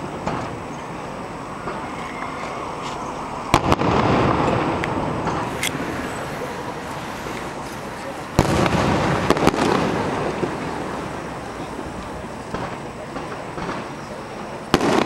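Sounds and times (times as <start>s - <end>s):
firework shells bursting: 0.0s - 0.7s, 1.6s - 15.0s
echoing rumble: 0.0s - 14.0s.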